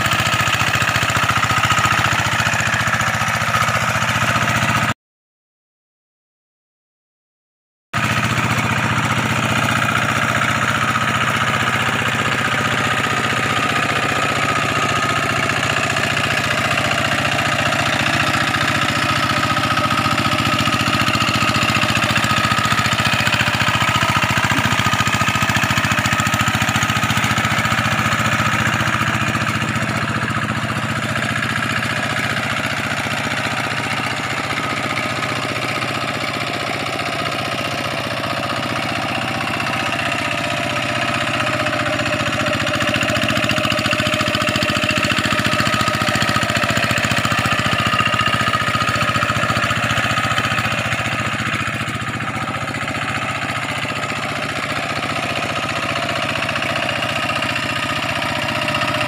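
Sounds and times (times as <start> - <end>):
hand tractor engine running: 0.0 - 4.9, 8.0 - 59.0.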